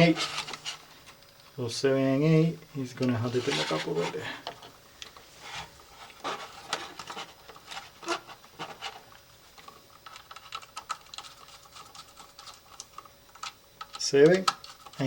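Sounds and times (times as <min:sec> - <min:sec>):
wires clicking and scraping: 0:00.0 - 0:01.5, 0:03.0 - 0:15.0.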